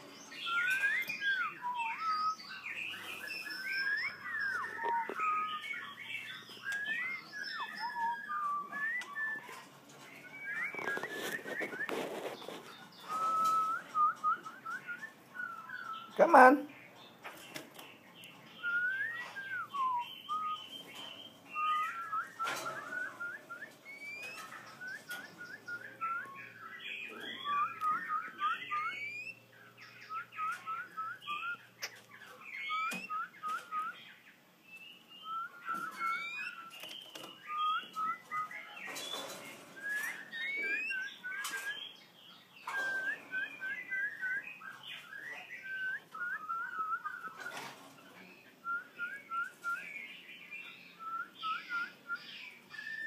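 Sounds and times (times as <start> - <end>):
birds singing whistled notes: 0.0 - 53.0.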